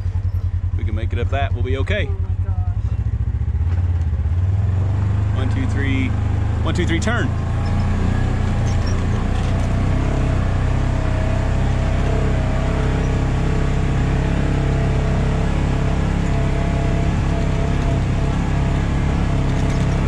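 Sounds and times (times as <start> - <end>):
utility vehicle engine under load: 0.0 - 20.0.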